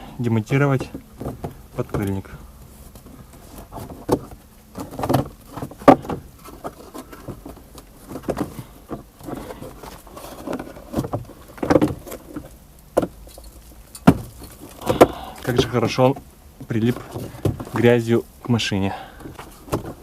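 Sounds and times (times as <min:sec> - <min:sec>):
plastic rustling and scraping: 0:00.4 - 0:20.0
knocks of flexing plastic: 0:00.8 - 0:02.3, 0:03.0 - 0:13.2, 0:14.0 - 0:17.9, 0:19.2 - 0:20.0.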